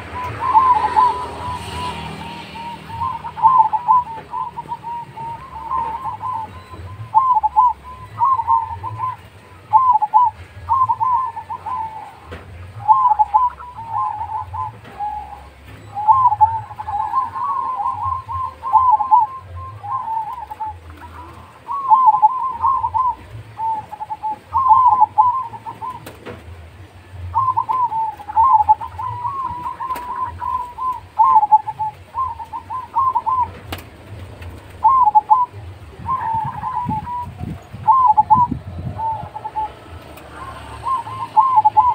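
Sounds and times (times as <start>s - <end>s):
dove cooing: 0.0s - 41.9s.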